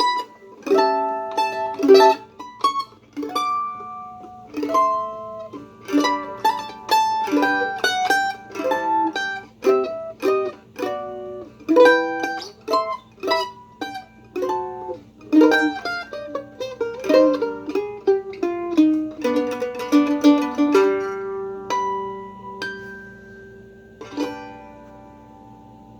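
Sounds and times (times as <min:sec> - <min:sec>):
mandolin picked melody: 0:00.0 - 0:25.9.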